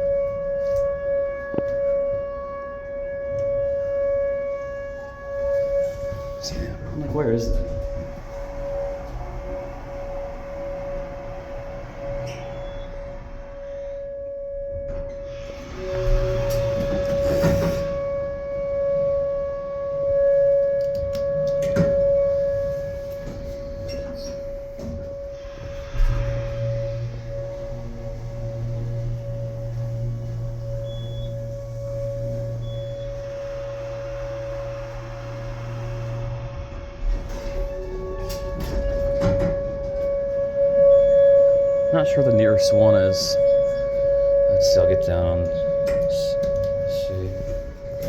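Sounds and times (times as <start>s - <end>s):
tornado warning siren: 0.0s - 48.0s.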